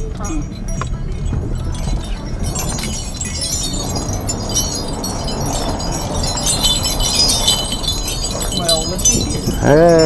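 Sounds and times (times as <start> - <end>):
high metallic tinkling: 0.0 - 10.0
low car rumble: 0.0 - 10.0.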